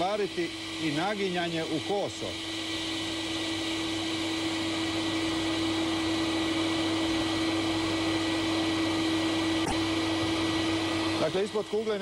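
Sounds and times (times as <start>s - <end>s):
electric air blower hissing: 0.0s - 12.0s.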